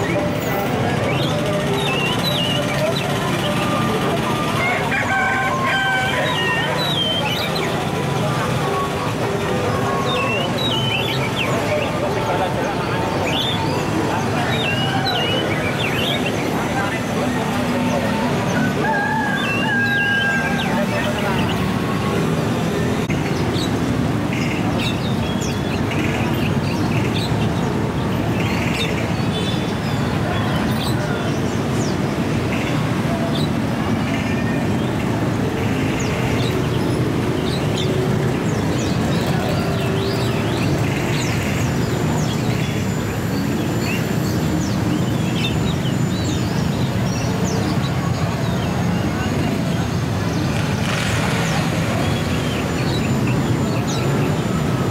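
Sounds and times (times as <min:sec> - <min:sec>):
caged birds chirping: 0:00.0 - 0:54.9
traffic noise: 0:00.0 - 0:54.9.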